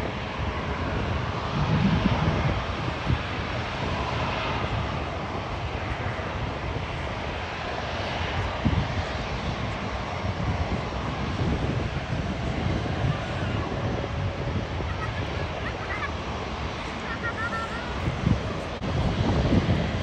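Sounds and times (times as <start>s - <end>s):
jet engines whooshing: 0.0s - 20.0s.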